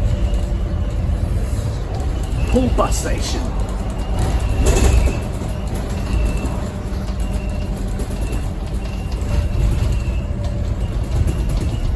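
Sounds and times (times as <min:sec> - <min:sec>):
bus diesel engine rumbling: 0:00.0 - 0:11.9.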